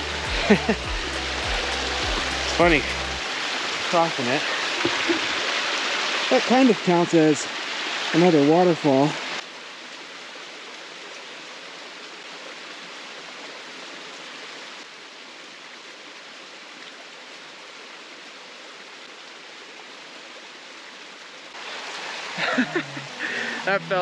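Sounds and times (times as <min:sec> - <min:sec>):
creek rushing over cascade: 0:00.0 - 0:24.0.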